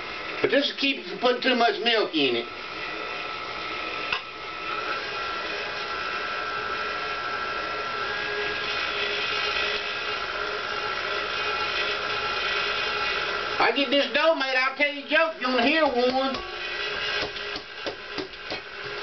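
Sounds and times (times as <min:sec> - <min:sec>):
stand mixer motor whining: 0:00.0 - 0:19.0.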